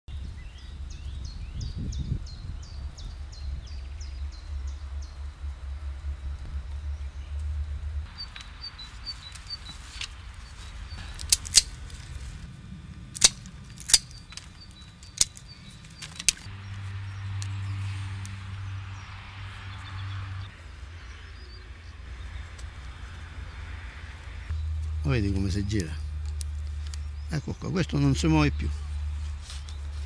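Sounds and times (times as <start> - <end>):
low steady rumble: 0.1 - 30.0.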